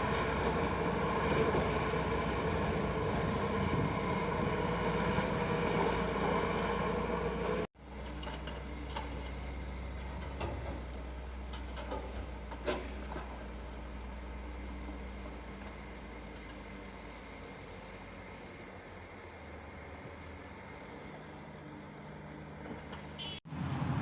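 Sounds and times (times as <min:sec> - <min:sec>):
heavy diesel machinery running: 0:00.0 - 0:24.0
low engine hum: 0:00.0 - 0:24.0.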